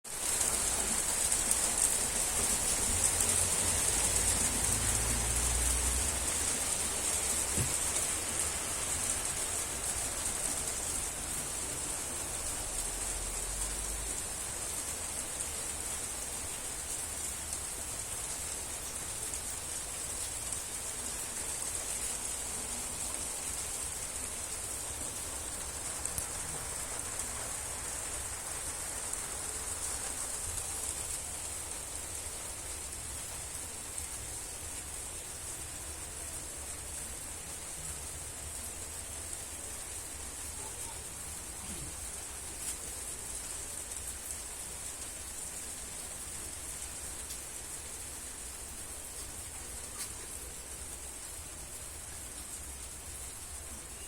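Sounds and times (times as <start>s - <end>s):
rain falling on plants: 0.0s - 54.0s.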